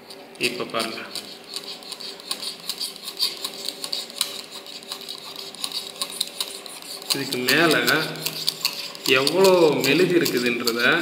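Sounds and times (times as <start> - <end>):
knife scraping apple skin: 0.0 - 11.0.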